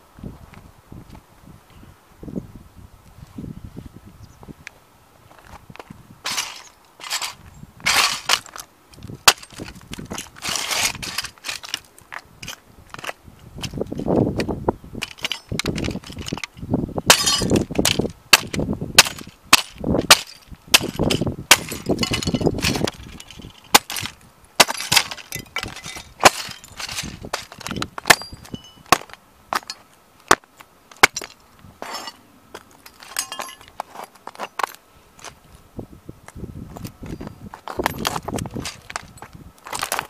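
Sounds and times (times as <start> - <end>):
model car crunching underfoot: 5.3 - 35.4, 36.7 - 40.0.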